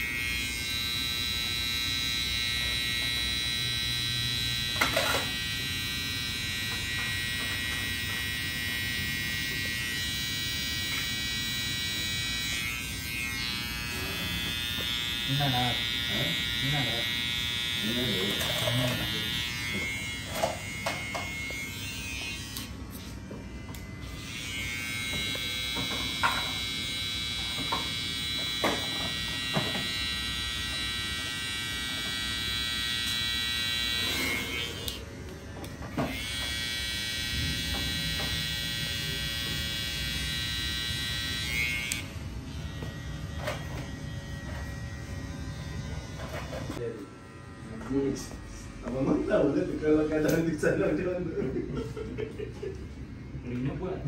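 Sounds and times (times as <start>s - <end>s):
electric hair clippers buzzing: 0.0s - 51.6s.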